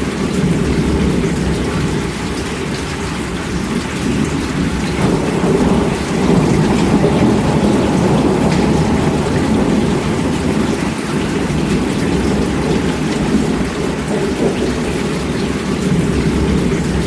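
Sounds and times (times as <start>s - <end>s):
heavy rain falling: 0.0s - 17.0s
thunder rumble: 0.0s - 17.0s.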